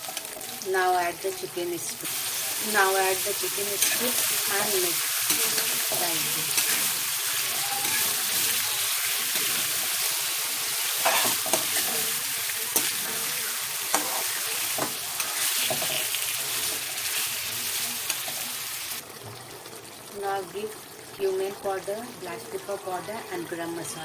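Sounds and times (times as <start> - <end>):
chicken sizzling in pan: 0.0 - 20.0.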